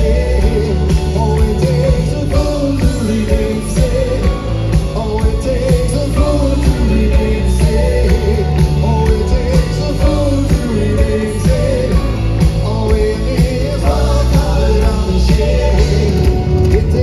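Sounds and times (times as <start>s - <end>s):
drums: 0.0s - 17.0s
electric guitars: 0.0s - 17.0s.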